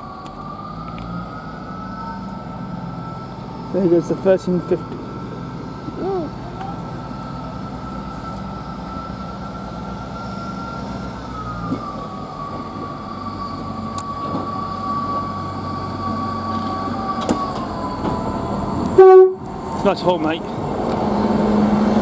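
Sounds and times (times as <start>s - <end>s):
train diesel engines running: 0.0s - 22.0s.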